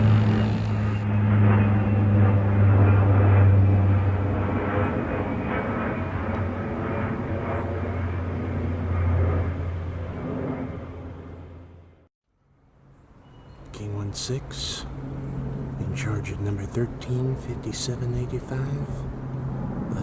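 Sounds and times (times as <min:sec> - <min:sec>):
aircraft engine drone: 0:00.0 - 0:12.1, 0:13.6 - 0:20.0.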